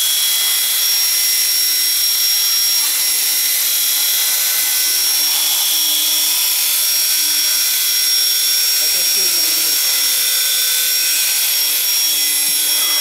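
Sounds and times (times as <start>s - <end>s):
model helicopter motor whine: 0.0s - 13.0s.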